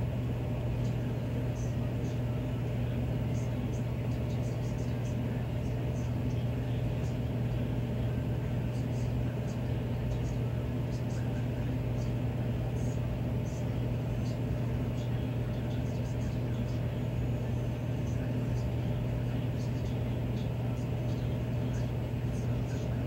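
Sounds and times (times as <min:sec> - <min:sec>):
furnace humming: 0:00.0 - 0:23.0.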